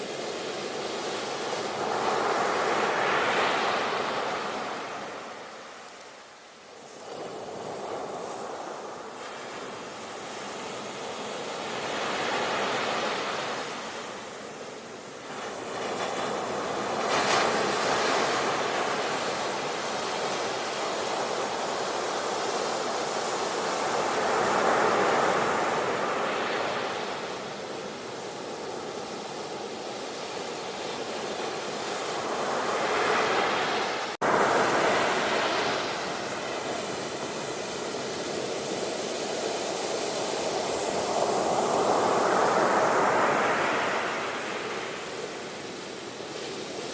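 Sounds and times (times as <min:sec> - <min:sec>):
sea waves washing: 0:06.7 - 0:46.9.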